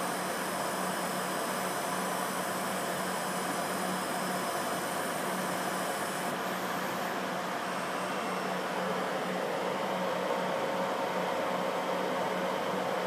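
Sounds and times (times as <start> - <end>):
faint high whine: 0.0 - 10.8.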